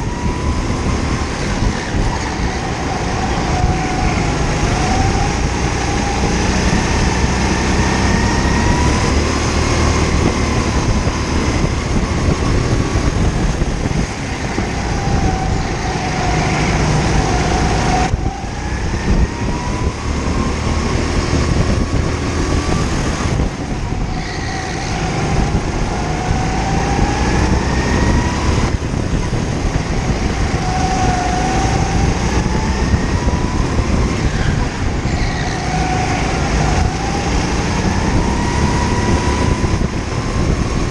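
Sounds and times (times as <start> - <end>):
kart engine revving: 0.0 - 40.9.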